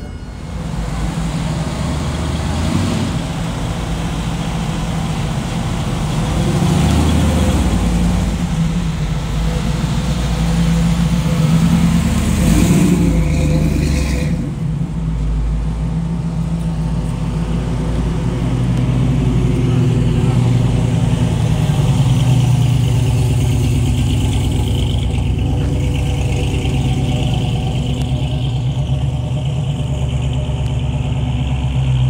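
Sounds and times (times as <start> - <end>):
car engine revving: 0.0 - 32.0
car engines running: 0.0 - 32.0.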